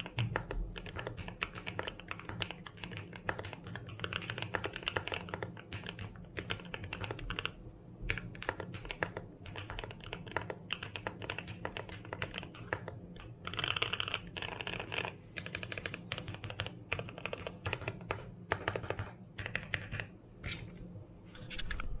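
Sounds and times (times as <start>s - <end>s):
mechanical keyboard typing: 0.0s - 20.6s.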